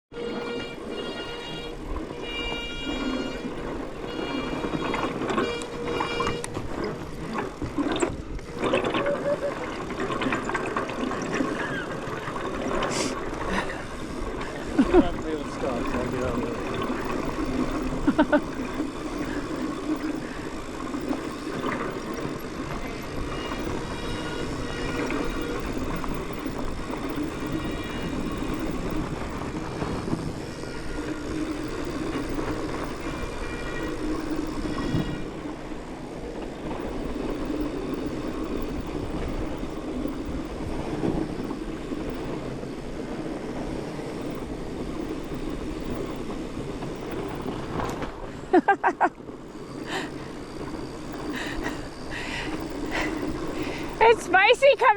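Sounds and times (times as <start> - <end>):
bike rattling: 0.1 - 54.9
bike tyres rumbling over dirt: 0.2 - 54.9.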